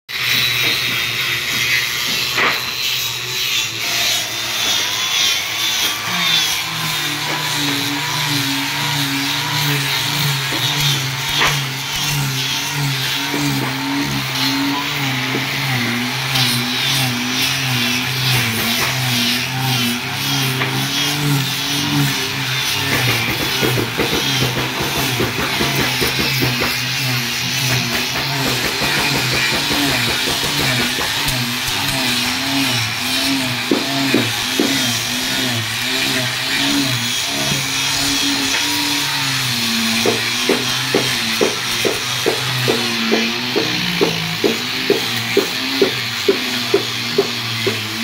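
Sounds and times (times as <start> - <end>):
angle grinders sanding wood: 0.1 - 48.0.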